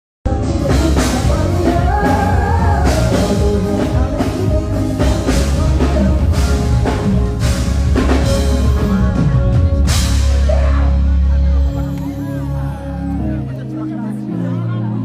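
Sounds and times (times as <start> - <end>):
heavy bass: 0.2 - 15.0
drum kit: 0.3 - 12.4
band music through a pa: 0.3 - 15.0
person singing melody: 0.3 - 15.0.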